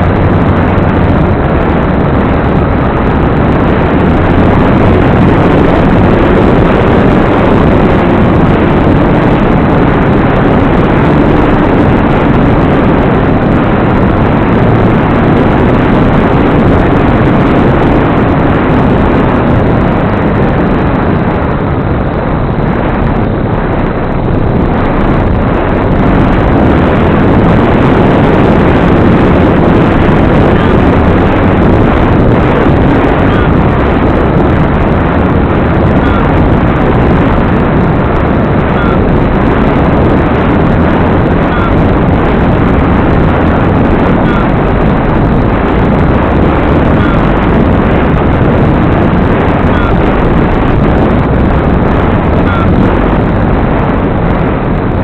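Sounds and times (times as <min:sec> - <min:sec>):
electric motor and propeller droning: 0:00.0 - 0:55.0
wind rushing over microphone: 0:00.0 - 0:55.0.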